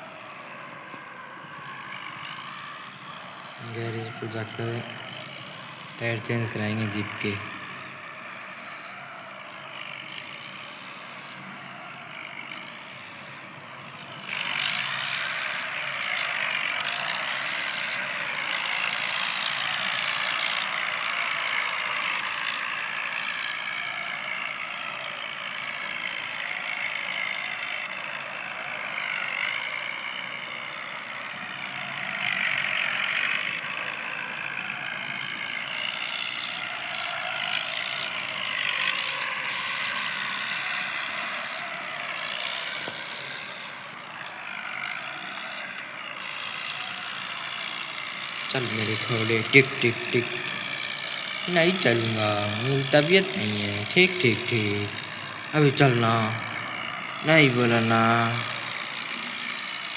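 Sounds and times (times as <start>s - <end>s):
tractor running: 0.0s - 59.9s.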